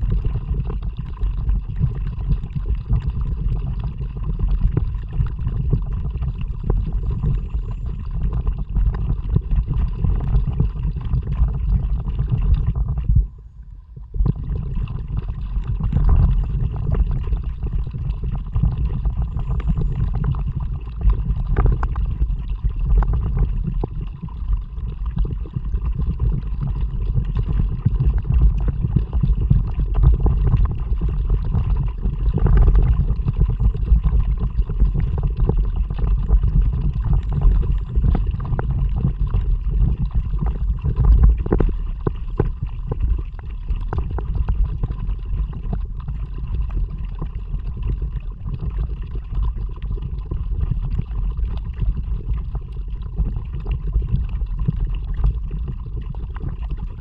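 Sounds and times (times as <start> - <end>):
water gurgling along kayak hull: 0.0 - 57.0
wind rumble on microphone: 0.0 - 57.0.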